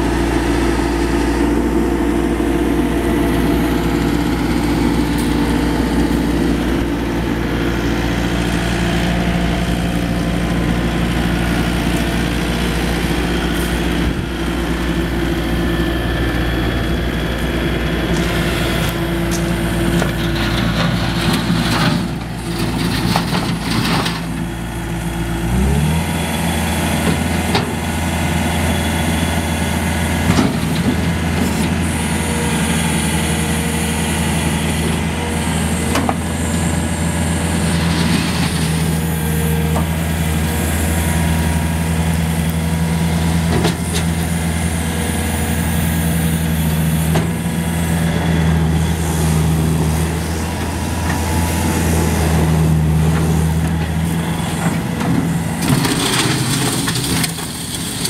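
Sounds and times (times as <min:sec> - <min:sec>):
skid steer diesel engine: 0:00.0 - 0:58.0.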